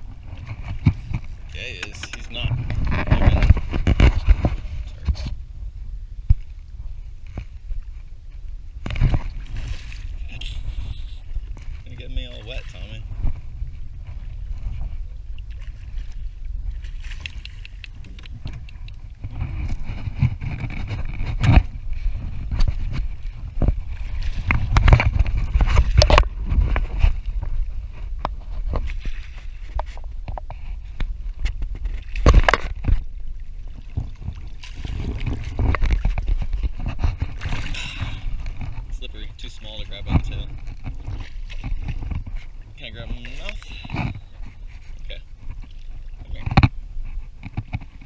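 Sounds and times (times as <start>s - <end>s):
water lapping against hull: 0.0s - 48.0s
wind buffeting microphone: 0.0s - 48.0s.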